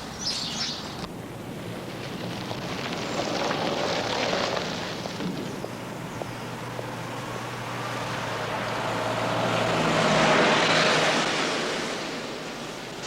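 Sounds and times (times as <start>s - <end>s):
faint engine hum: 0.0s - 13.0s
vehicle passing by: 1.4s - 13.0s.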